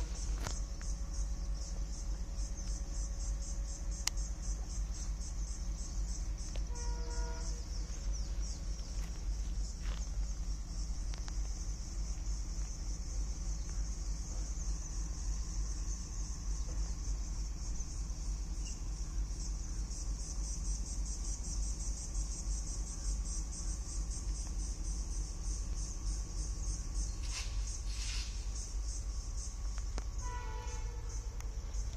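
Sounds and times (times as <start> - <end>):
insects buzzing: 0.0 - 31.9.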